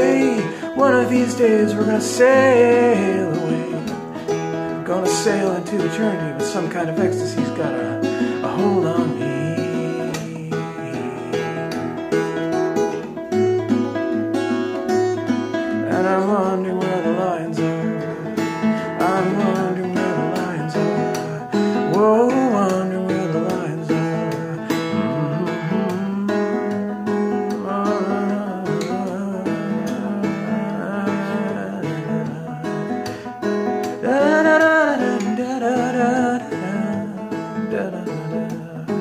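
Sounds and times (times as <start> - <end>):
person singing wordlessly: 0.0 - 12.4, 15.7 - 39.0
acoustic guitar folk accompaniment: 0.0 - 39.0.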